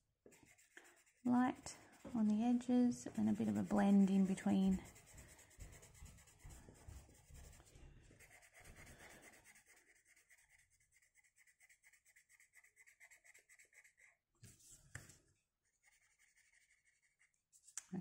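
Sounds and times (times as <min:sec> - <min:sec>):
pencil scratching on paper: 0:00.3 - 0:14.2, 0:15.6 - 0:17.6.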